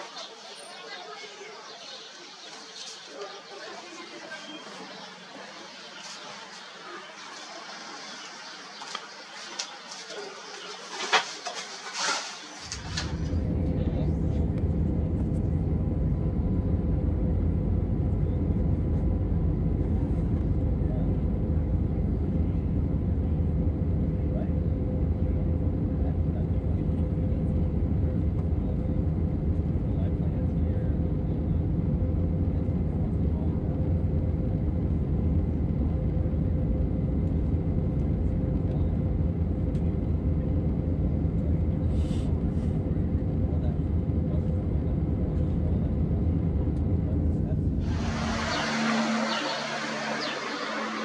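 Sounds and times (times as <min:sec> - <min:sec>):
faint constant hum: 0:00.0 - 0:51.0
jet engines droning: 0:00.0 - 0:51.0.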